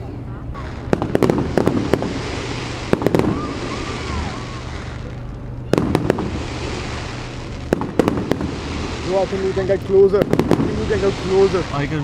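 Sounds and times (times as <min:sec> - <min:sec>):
fireworks bangs: 0:00.0 - 0:12.0
outdoor hubbub: 0:00.0 - 0:12.0.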